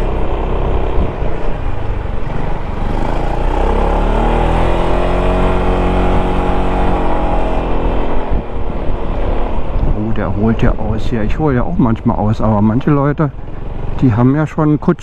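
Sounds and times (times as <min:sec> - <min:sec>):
wind rush on microphone: 0:00.0 - 0:03.2, 0:04.3 - 0:14.0
scooter engine climbing: 0:00.0 - 0:14.1.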